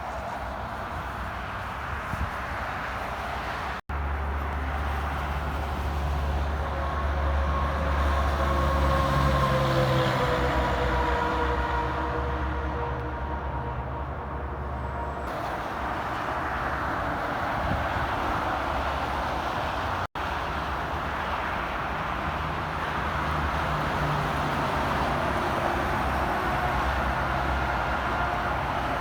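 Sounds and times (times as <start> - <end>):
highway traffic rushing: 0.0 - 29.0.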